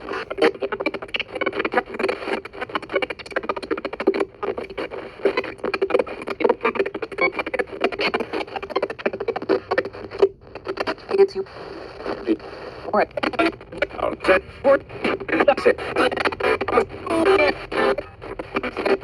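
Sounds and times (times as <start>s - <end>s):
choppy radio fragments and static: 0.0s - 19.0s.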